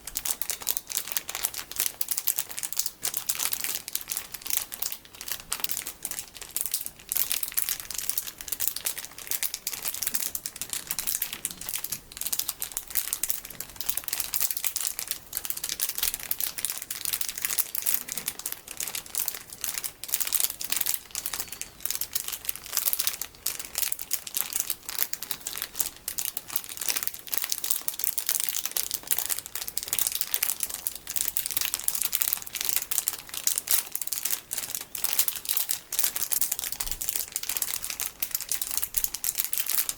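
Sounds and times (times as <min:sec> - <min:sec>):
plastic package crinkling: 0:00.0 - 0:39.9.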